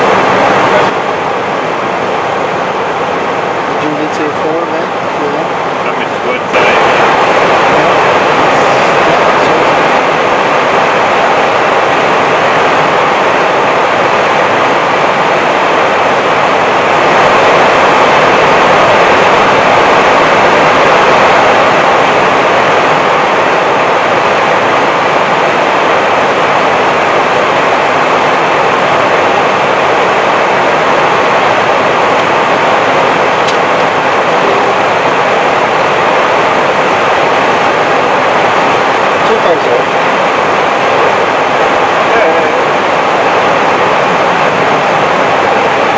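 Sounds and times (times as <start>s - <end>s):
cockpit airflow and engine noise: 0.0s - 45.9s.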